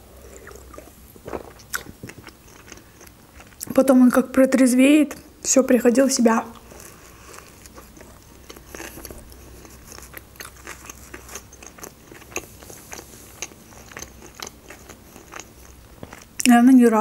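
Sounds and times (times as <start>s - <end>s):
chewing with clicks and crunches: 0.2s - 3.8s, 6.5s - 16.6s.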